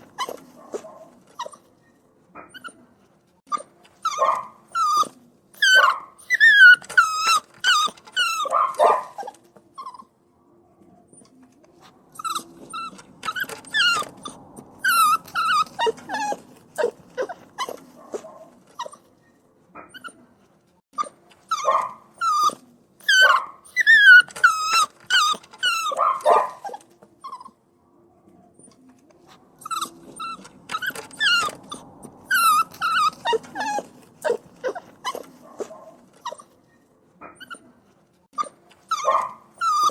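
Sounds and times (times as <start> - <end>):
puppies whining and crying: 0.0 - 1.8, 2.4 - 2.9, 3.5 - 10.1, 12.1 - 19.2, 19.8 - 20.3, 21.0 - 27.6, 28.6 - 39.9.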